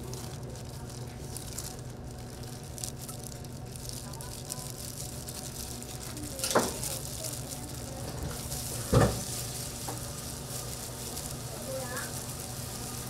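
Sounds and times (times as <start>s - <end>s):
food frying sizzle: 0.0s - 13.0s.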